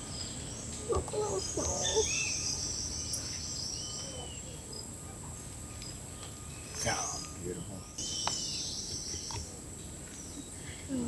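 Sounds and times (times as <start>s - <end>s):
birds chirping: 0.0s - 11.0s
birds whistling calls: 0.0s - 11.0s
high-pitched insect drone: 0.0s - 11.0s.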